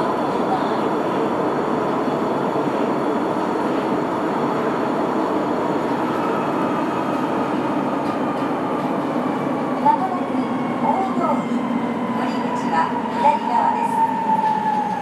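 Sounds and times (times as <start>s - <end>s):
subway train running in tunnel: 0.0s - 15.0s.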